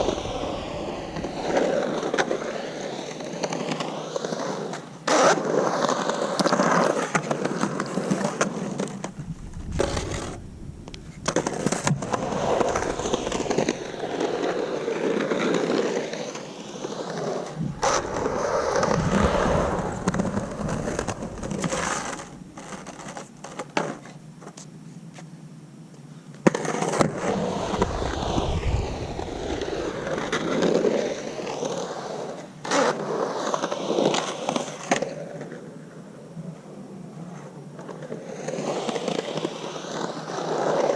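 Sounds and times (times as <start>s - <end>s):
skateboard wheels rolling on concrete: 0.0s - 40.9s.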